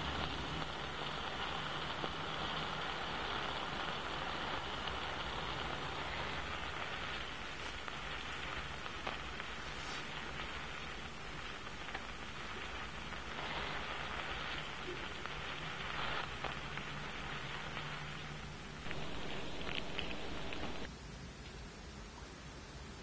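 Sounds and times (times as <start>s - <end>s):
oil popping: 0.0s - 20.9s
vegetables sizzling in a frying pan: 0.0s - 20.9s.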